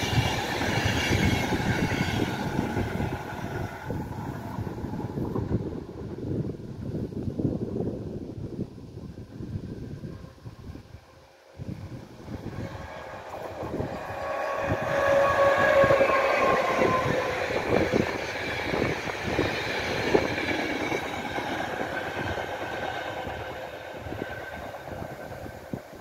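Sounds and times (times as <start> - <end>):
locomotive whine: 0.0 - 7.2, 9.0 - 26.0.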